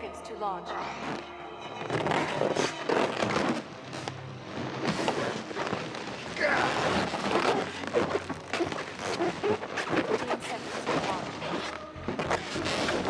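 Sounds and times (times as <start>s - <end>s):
crackling rushing noise: 1.0s - 13.0s.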